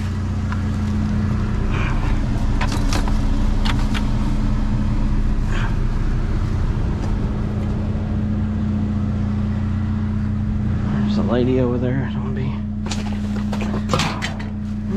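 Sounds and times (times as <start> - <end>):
vehicle engine idling: 0.0 - 14.9.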